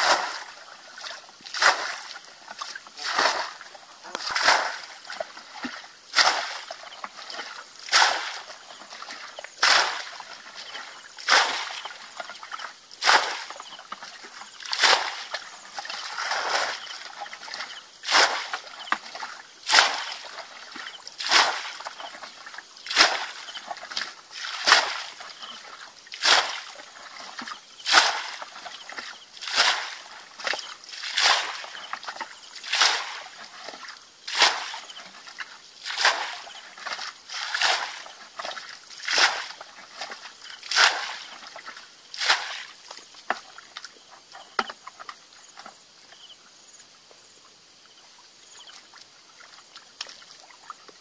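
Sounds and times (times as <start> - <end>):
bucket splashing water: 0.0 - 45.8
water sloshing: 0.0 - 46.3.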